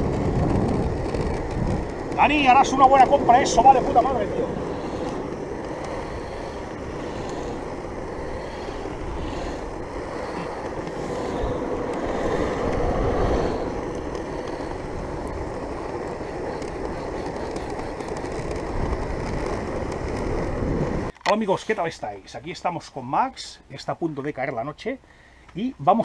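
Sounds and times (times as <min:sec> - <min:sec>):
wind on microphone: 0:00.0 - 0:21.1
wheels rolling on asphalt: 0:00.0 - 0:26.0.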